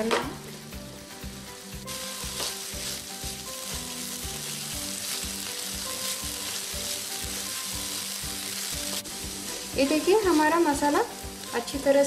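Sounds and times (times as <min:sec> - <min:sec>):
paste sizzling in hot oil: 0:00.4 - 0:12.0.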